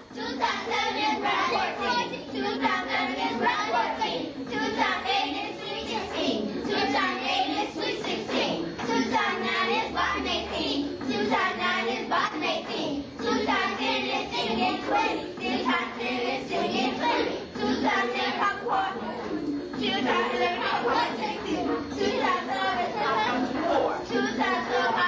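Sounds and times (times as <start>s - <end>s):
children chanting a rap: 0.0s - 25.0s.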